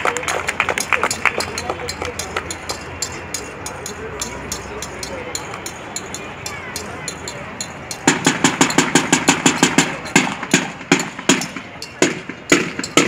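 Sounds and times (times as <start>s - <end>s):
fast percussive beats: 0.2s - 13.0s.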